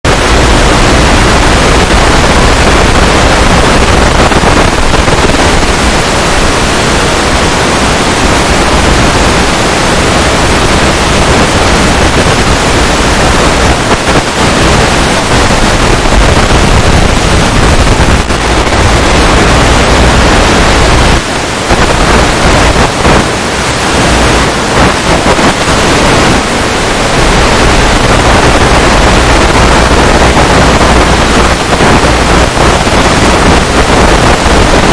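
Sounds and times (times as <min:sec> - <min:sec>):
static hiss: 0:00.1 - 0:34.9.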